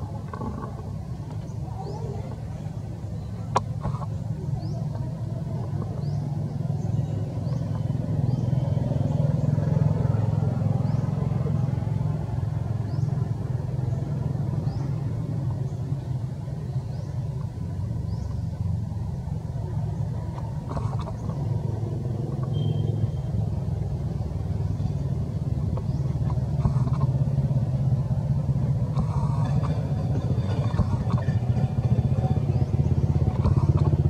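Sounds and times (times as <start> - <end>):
passing vehicle rumble: 0.0 - 34.0.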